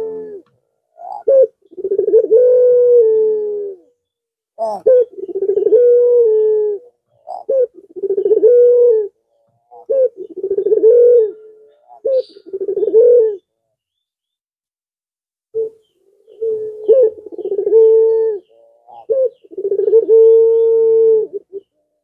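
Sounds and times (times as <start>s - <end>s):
dove cooing: 0.0s - 4.0s, 4.6s - 13.5s, 15.6s - 21.8s.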